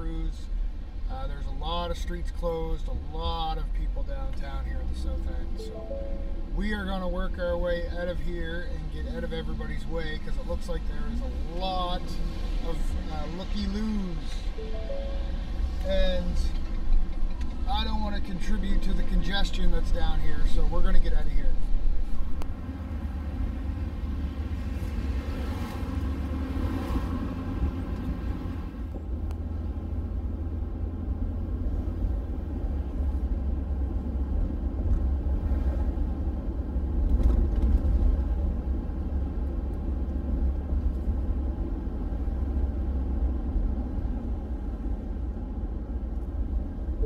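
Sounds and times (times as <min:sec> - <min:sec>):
engine and tyres rumbling: 0:00.0 - 0:47.0.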